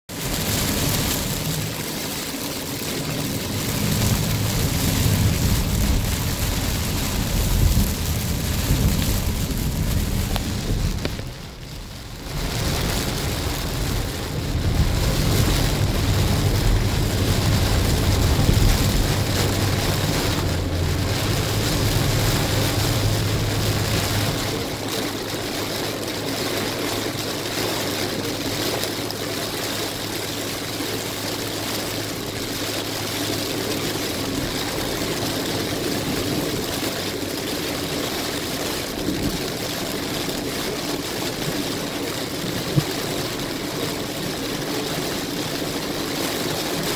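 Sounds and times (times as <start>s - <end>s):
car and tyres rumbling on wet road: 0.1s - 46.9s
heavy rain on car roof: 0.1s - 46.9s.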